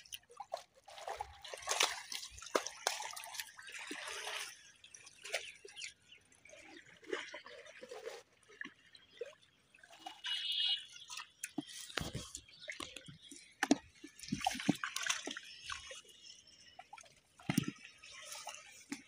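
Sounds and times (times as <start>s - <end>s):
water splashing in a plastic bucket: 0.0s - 19.0s.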